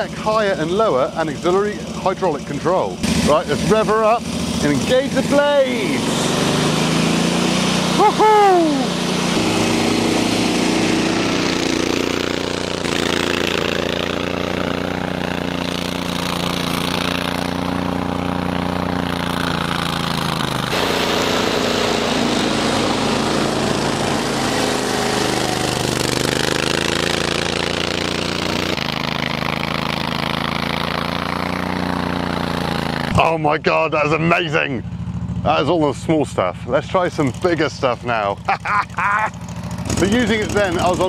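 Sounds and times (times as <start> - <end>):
mower engine running: 0.0 - 41.0.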